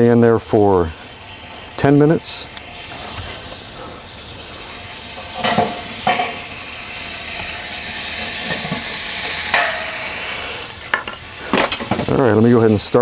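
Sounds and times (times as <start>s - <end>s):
ribs sizzling in fryer: 0.0s - 13.0s.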